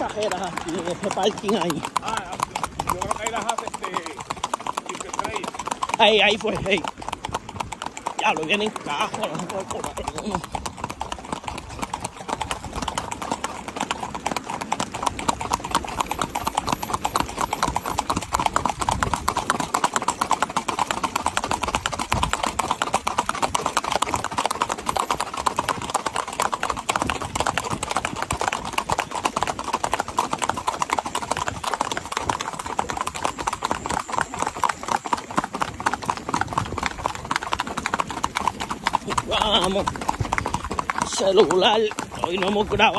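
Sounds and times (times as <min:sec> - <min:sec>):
horse hooves clip-clopping on pavement: 0:00.0 - 0:42.9.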